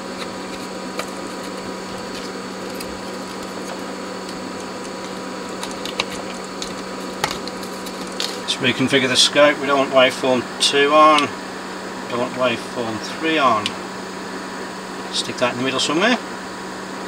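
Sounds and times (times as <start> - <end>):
electronics hum and hiss: 0.0 - 17.0.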